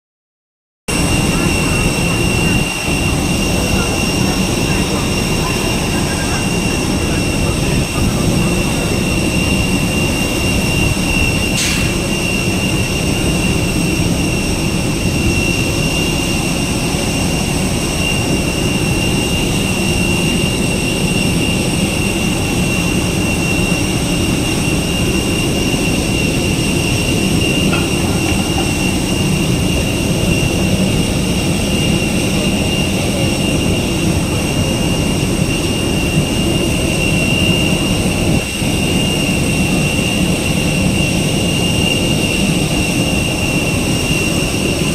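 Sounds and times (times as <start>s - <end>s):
high-pitched engine whine: 0.9s - 44.9s
jet engines rumbling: 0.9s - 44.9s.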